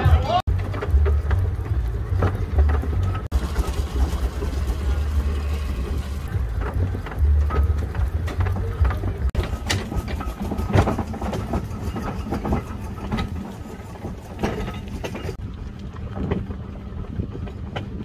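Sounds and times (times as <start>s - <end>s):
steam traction engine chuffing: 0.0s - 15.4s.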